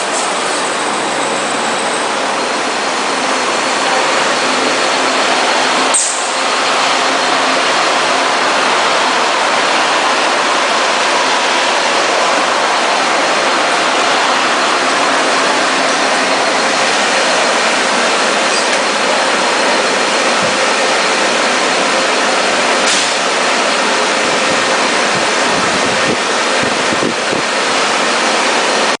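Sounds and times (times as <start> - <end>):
packaging machine running: 0.0 - 28.9.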